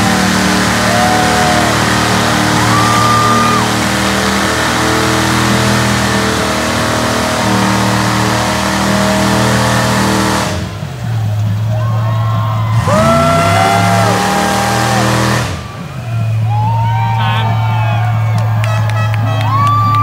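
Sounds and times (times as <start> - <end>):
crowd cries: 0.0 - 9.0, 10.9 - 20.0
truck engine running at high revs: 0.0 - 20.0.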